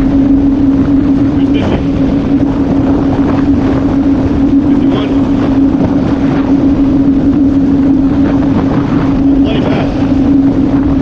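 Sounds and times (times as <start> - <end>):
jet ski engine droning: 0.0 - 11.0
rushing water noise: 0.0 - 11.0.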